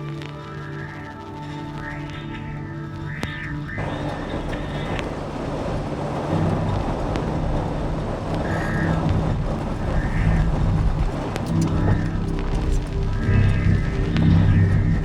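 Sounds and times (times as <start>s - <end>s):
low hum: 0.0s - 15.0s
soft background music: 0.0s - 15.0s
steady rushing rumbling noise: 0.0s - 15.0s.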